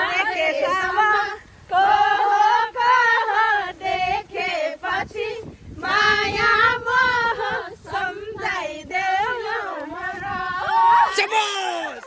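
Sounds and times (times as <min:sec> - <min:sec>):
voices singing a song: 0:00.0 - 0:11.3.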